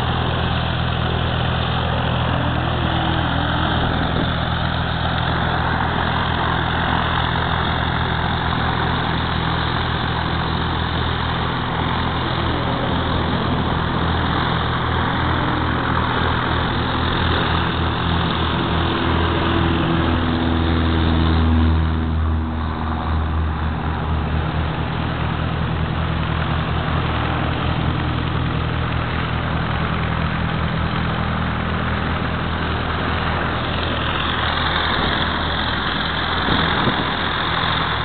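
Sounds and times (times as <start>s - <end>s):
propeller aircraft engine droning: 0.0s - 38.0s.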